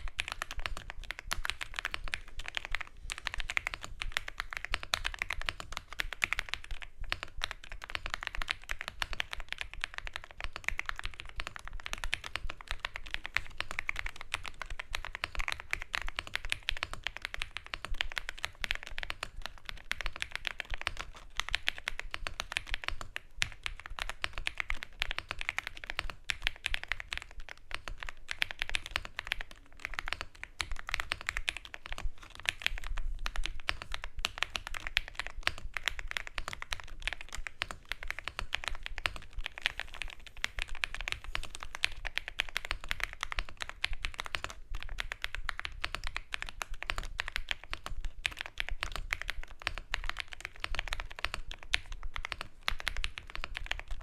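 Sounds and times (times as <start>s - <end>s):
fast typing on keyboard: 0.0s - 54.0s.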